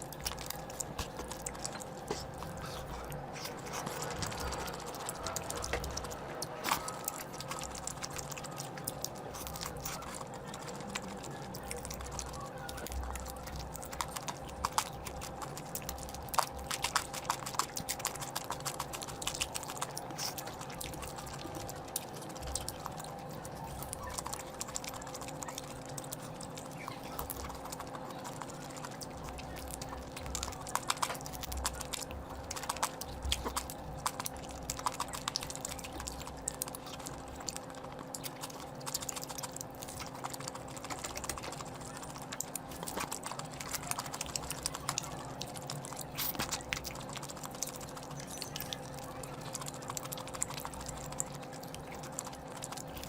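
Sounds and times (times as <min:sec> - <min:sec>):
person chewing food: 0:00.0 - 0:53.0
steady low hum: 0:00.0 - 0:53.0.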